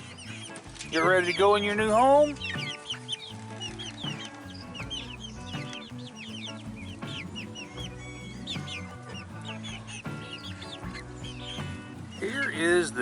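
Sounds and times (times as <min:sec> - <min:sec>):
background music: 0:00.0 - 0:13.0
chickens clucking and peeping: 0:02.4 - 0:12.9.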